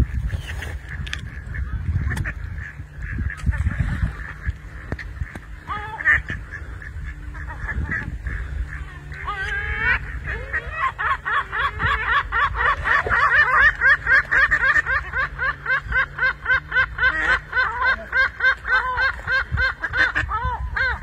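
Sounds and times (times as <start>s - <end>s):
waterbirds cackling: 0.0s - 21.0s.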